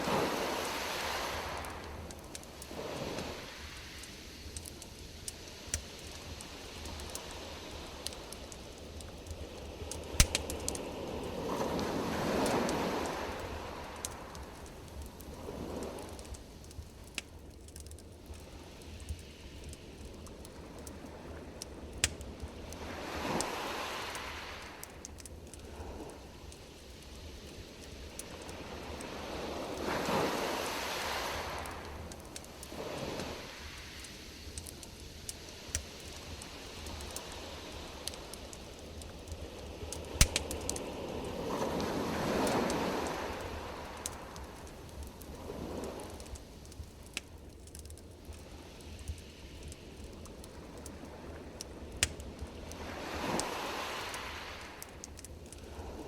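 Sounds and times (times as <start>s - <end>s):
low rush of fire: 0.0s - 56.0s
campfire pops and snaps: 0.6s - 55.7s.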